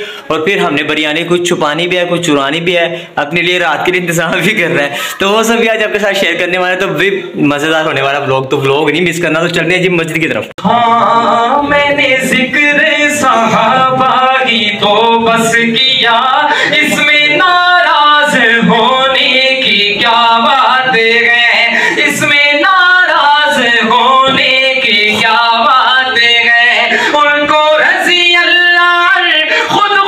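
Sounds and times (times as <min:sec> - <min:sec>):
man singing into a microphone: 0:00.0 - 0:09.9, 0:10.5 - 0:30.0.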